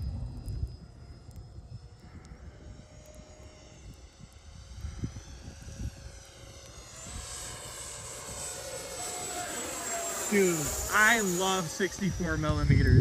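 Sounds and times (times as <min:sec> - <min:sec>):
low rumble: 0:00.0 - 0:13.0
model jet fan whine: 0:00.0 - 0:13.0.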